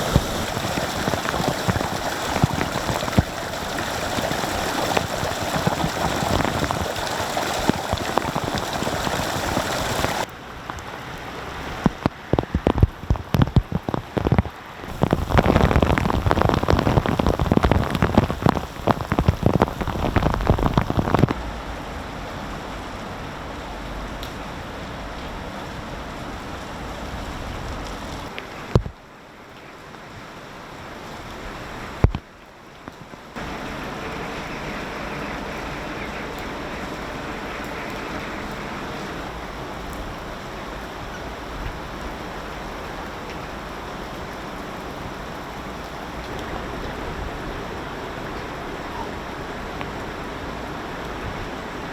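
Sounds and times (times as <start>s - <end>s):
close raindrops striking: 0.0s - 51.9s
heavy rain falling: 0.0s - 51.9s.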